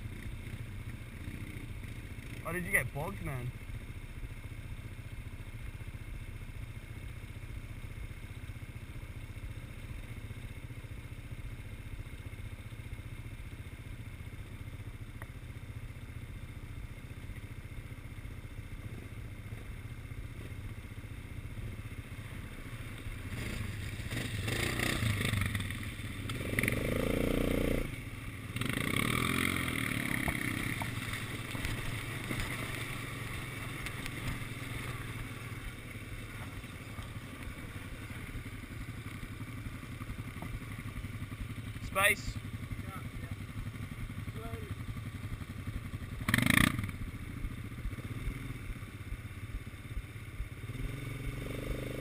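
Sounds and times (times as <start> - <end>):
quad bike engine idling and revving: 0.0 - 52.0.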